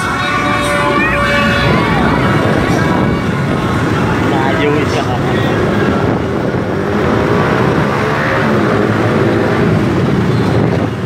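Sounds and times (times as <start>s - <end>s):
motorbike engines running: 0.0s - 11.0s
wind rushing over microphone: 0.0s - 11.0s.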